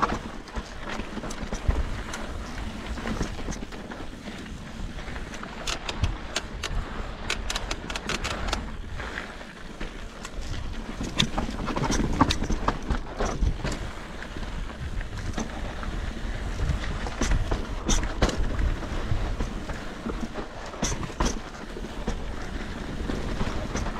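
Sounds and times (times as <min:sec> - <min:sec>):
bike clicking and rattling: 0:00.0 - 0:23.9
wind rushing over microphone: 0:00.0 - 0:23.9.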